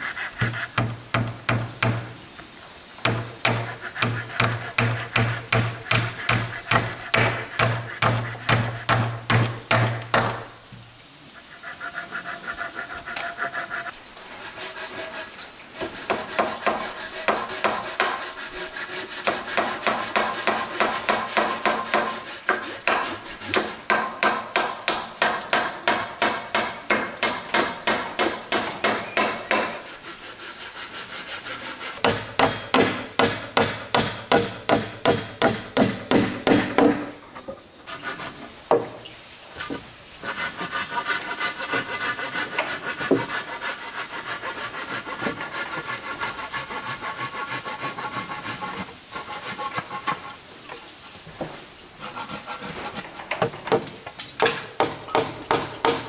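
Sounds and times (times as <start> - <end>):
hand tool working timber: 0.0 - 2.1, 3.0 - 10.5, 11.6 - 39.0, 39.6 - 50.4, 52.0 - 56.0.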